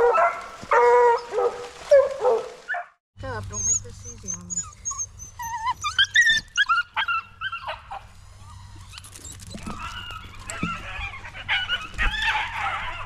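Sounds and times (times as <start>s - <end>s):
dogs whining: 0.0s - 13.0s
dogs yelping: 0.0s - 13.0s.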